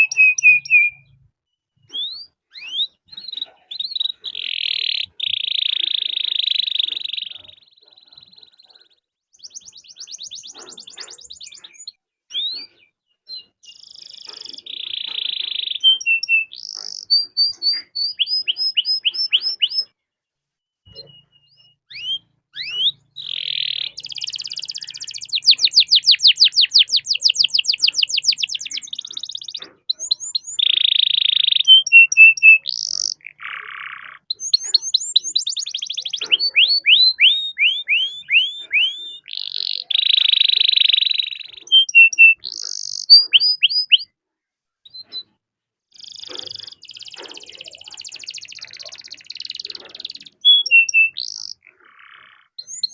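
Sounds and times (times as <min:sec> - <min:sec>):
canary singing trills: 0:00.0 - 0:20.0, 0:20.8 - 0:44.2, 0:44.9 - 0:52.9.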